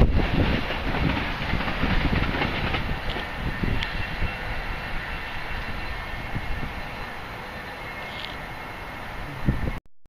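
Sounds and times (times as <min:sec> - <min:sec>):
train wheels rumbling and clacking: 0:00.0 - 0:09.8.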